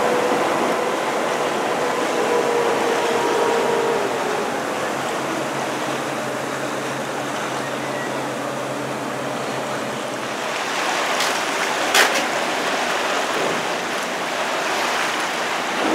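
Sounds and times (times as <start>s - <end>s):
boat engine running: 0.0s - 15.9s
water rushing along hull: 0.0s - 15.9s.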